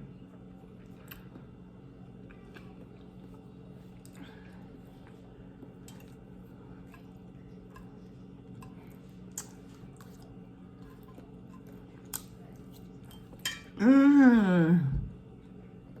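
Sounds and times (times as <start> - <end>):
steady low hum: 0.0 - 16.0
chewing food: 0.2 - 13.5.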